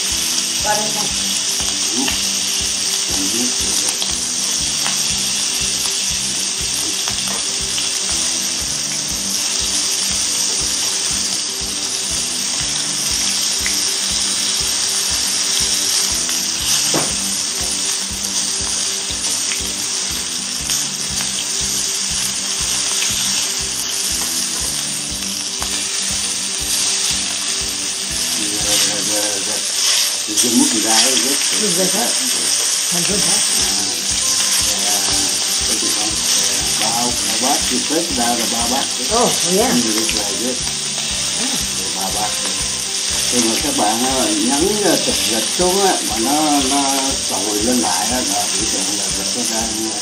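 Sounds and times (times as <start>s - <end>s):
background music with steady beat: 0.0s - 50.0s
meat sizzling in a frying pan: 0.0s - 50.0s.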